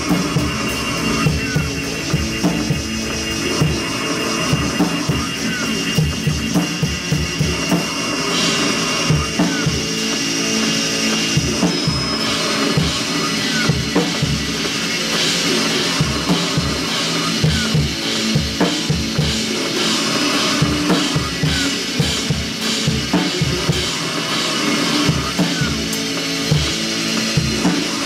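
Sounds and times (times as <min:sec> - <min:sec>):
crashing cymbals: 0:00.0 - 0:28.0
sustained droning tone: 0:00.0 - 0:28.0.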